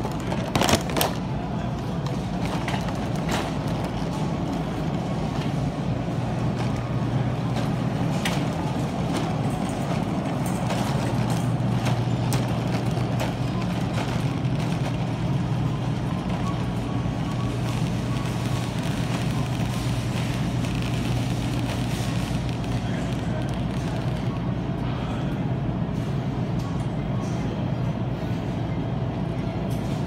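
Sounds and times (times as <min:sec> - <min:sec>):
low hum and rumble: 0:00.0 - 0:30.0.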